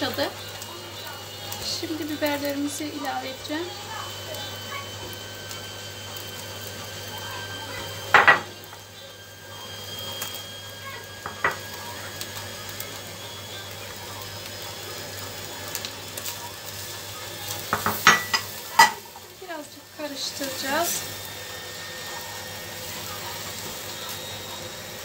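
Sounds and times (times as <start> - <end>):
meat and peppers sizzling: 0.0 - 25.0.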